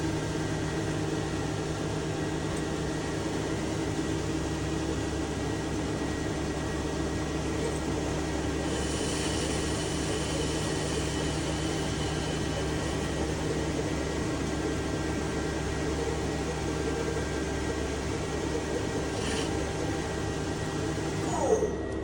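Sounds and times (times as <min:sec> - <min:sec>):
metal lathe humming: 0:00.2 - 0:22.0.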